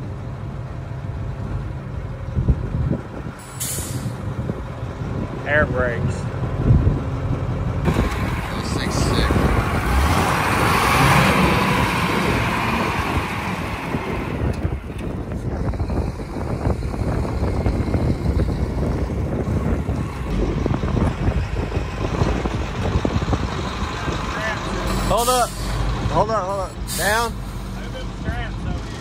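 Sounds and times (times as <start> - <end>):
diesel forklift engine running: 4.2 - 29.0.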